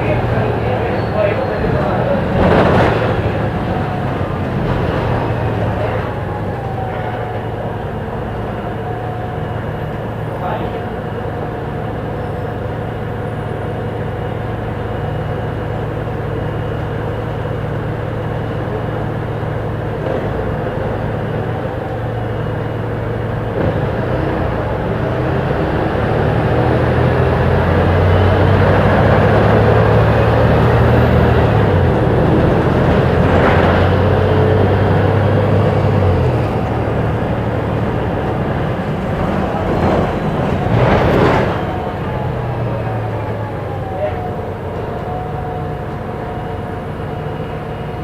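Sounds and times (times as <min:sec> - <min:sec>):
bus engine running: 0:00.0 - 0:48.0.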